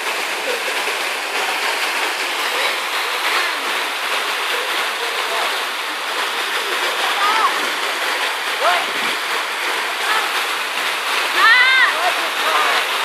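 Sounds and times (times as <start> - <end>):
falling water rushing and splashing: 0.0 - 13.0.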